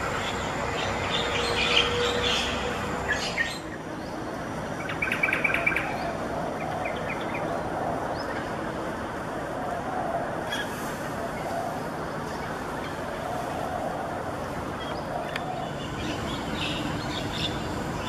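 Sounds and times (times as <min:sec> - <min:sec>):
birds calling: 0:00.0 - 0:08.6, 0:10.0 - 0:18.0
steady background noise: 0:00.0 - 0:18.0.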